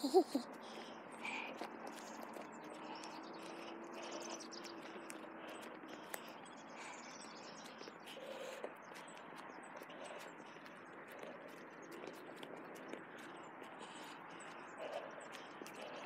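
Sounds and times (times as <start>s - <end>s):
faint small birds chirping: 0.0s - 16.0s.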